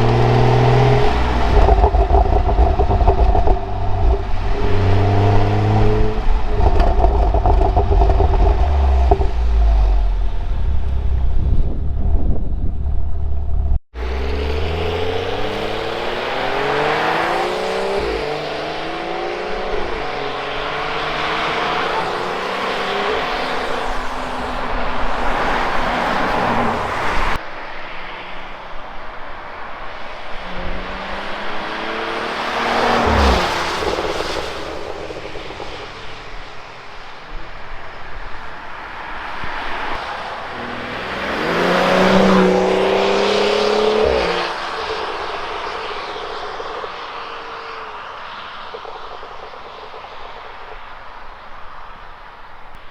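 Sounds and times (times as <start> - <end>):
car engine accelerating through gears: 0.0 - 27.4, 30.4 - 37.5, 39.6 - 50.6.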